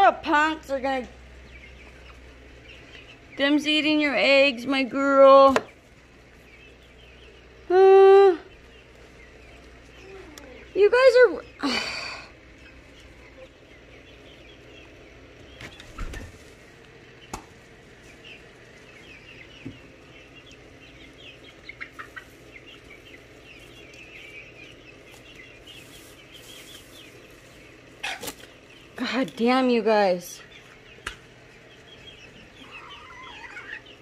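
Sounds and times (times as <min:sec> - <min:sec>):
chickens peeping and clucking: 0:00.0 - 0:34.0.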